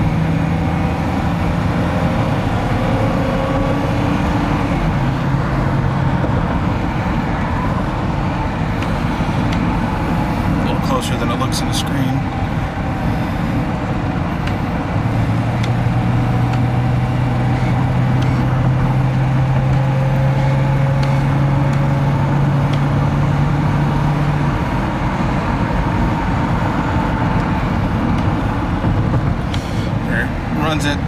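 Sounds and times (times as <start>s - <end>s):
car engine running: 0.0s - 31.0s
road noise: 0.0s - 31.0s.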